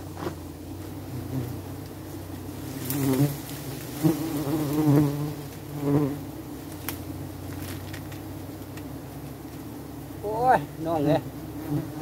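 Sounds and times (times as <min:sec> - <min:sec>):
bees buzzing in a swarm: 0:00.0 - 0:12.0.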